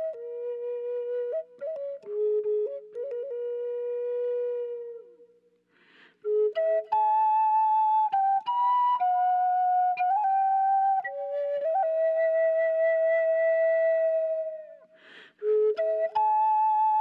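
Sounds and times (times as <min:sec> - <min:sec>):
solo flute melody: 0:00.0 - 0:05.6, 0:06.2 - 0:17.0.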